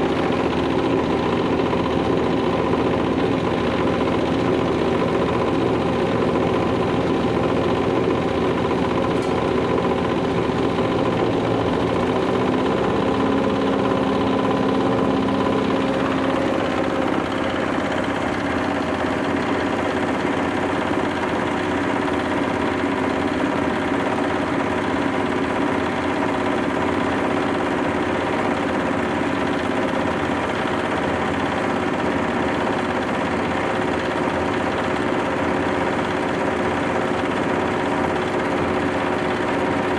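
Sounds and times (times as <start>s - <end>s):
hammer mill grinding: 0.0s - 39.9s.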